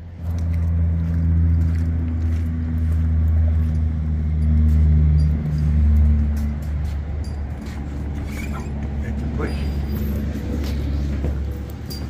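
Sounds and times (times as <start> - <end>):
faint footsteps: 0.0 - 12.0.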